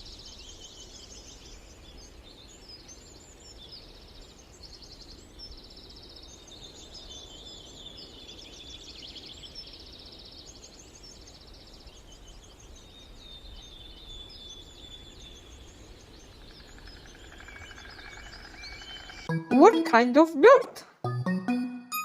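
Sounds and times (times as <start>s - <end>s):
small birds chirping and trilling: 0.0s - 19.3s.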